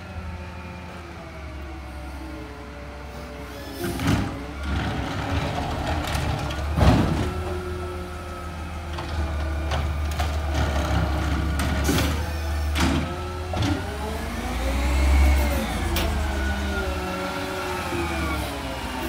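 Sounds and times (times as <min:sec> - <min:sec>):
garbage truck engine drone: 0:00.0 - 0:19.0.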